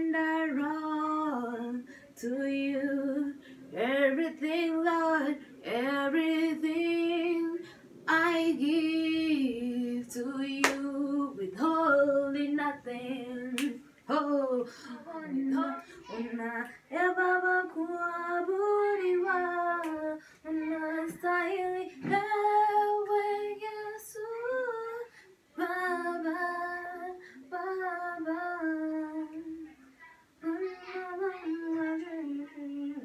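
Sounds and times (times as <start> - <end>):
woman singing: 0.0 - 29.7, 30.4 - 33.0.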